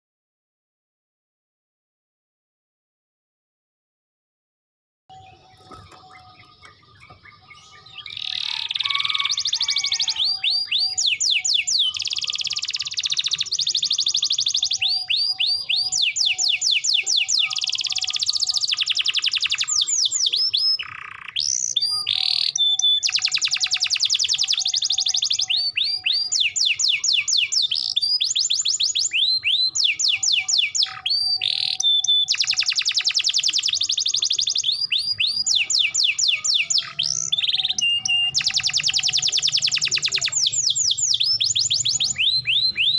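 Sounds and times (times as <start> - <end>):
canary singing trills: 5.1 - 42.9.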